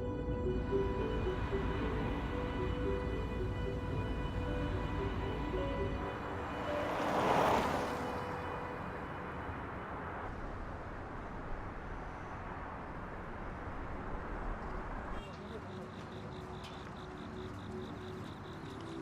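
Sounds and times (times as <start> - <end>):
outdoor ambient noise: 0.0 - 19.0.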